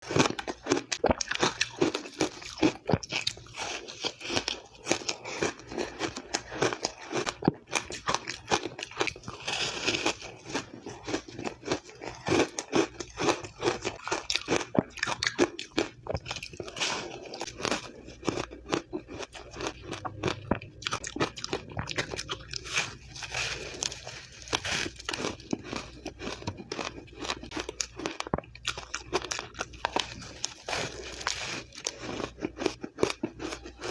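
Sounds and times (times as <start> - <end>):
ice crunching between teeth: 0.0 - 33.9.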